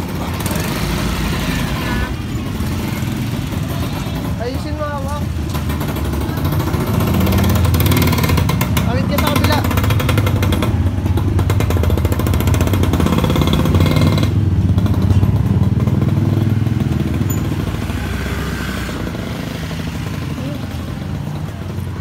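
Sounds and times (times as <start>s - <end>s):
motorcycle engine puttering: 0.0s - 22.0s.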